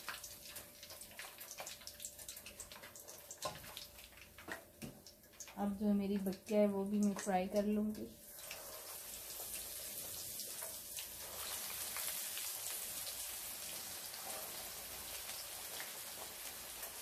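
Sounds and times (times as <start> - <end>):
fish deep-frying in oil: 0.0 - 17.0.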